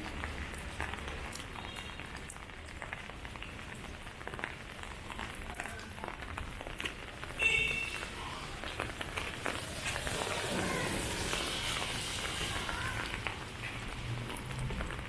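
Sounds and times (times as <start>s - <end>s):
rain falling and dripping: 0.0s - 15.0s.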